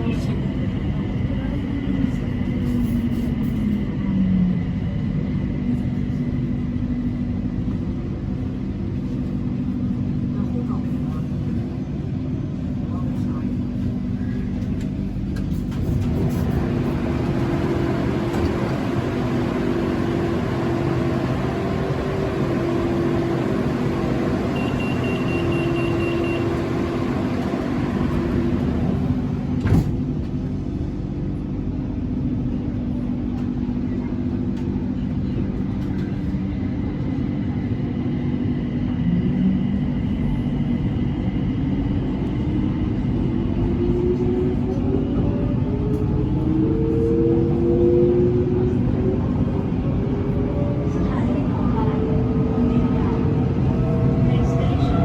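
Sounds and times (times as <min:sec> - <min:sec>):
electric train rumble and hum: 0:00.0 - 0:55.0.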